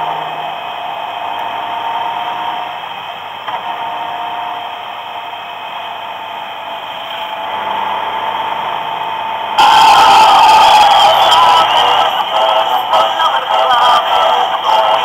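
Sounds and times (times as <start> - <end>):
motorcycle engine drone: 0.0 - 15.0.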